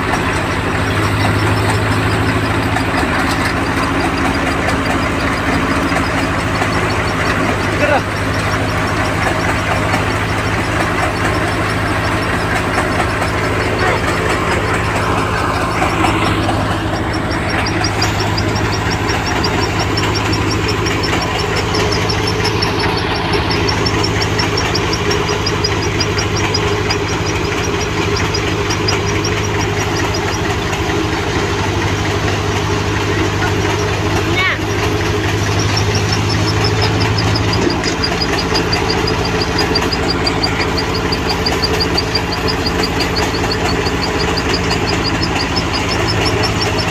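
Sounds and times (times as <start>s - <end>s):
fast even ticking: 0.0s - 46.9s
harvester engine humming: 0.0s - 46.9s.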